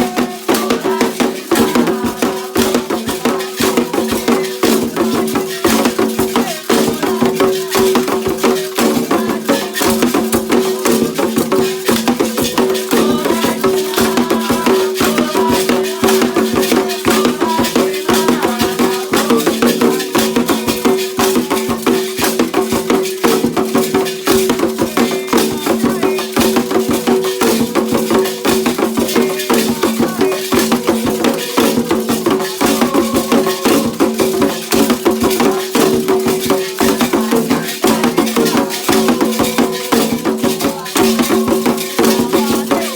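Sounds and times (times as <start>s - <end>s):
percussion strokes: 0.0s - 42.9s
rattles shaken: 0.0s - 42.9s.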